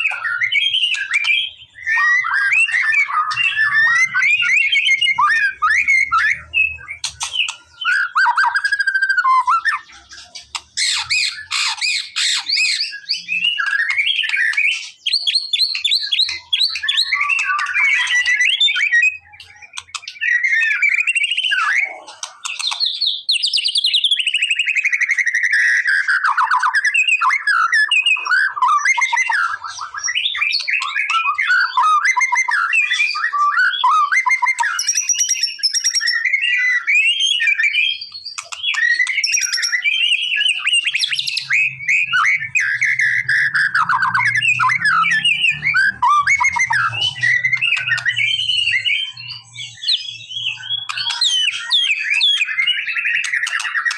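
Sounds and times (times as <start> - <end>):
bird singing whistles and trills: 0.0 - 53.9.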